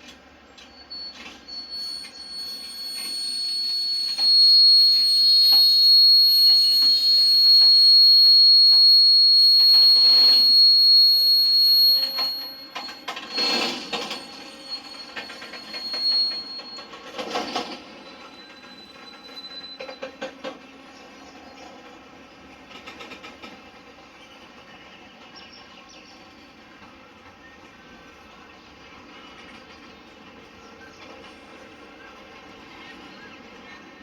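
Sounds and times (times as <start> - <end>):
train wheels screeching on rails: 0.0 - 34.0.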